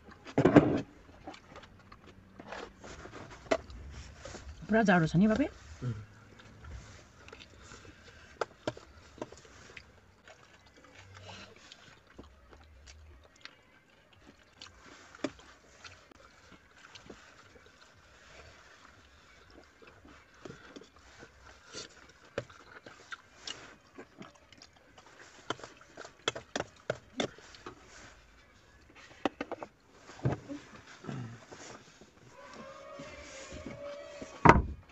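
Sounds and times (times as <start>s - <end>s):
soft chewing and smacking: 0.0s - 34.9s.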